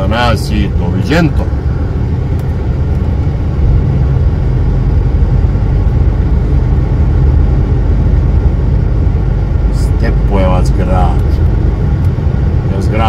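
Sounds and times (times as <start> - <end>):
lorry engine and road noise: 0.0 - 13.0.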